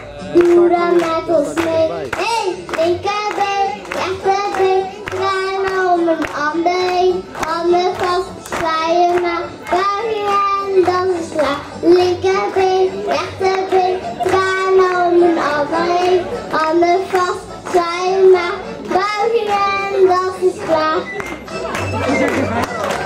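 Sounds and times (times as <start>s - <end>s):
girl singing into microphone: 0.3s - 21.1s.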